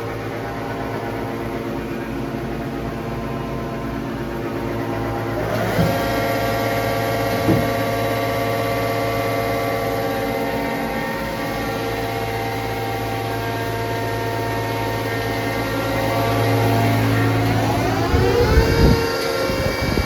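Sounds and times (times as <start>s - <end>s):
lathe machine hum: 0.0s - 20.0s.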